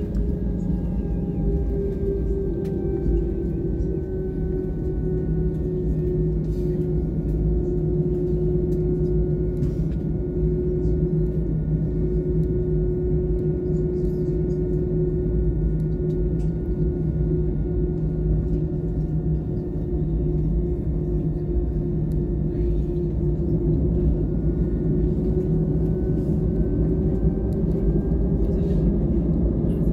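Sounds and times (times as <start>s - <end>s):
jet engine drone in cabin: 0.0s - 29.9s.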